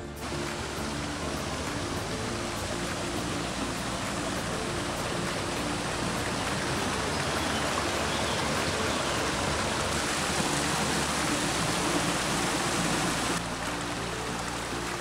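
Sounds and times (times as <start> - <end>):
stream rushing over boulders: 0.0 - 15.0.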